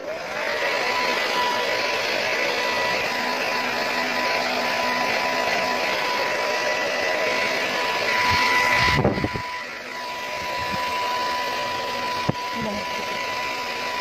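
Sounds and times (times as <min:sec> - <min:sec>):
hair dryer blowing: 0:00.0 - 0:14.0.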